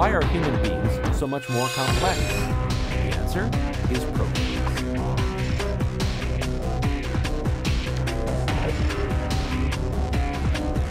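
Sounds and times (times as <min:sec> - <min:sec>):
music with fast drum beat: 0:01.8 - 0:10.9.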